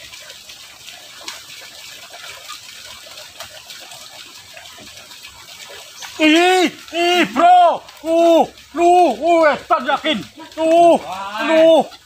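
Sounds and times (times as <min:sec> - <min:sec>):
water rushing in ditch: 0:00.0 - 0:12.0.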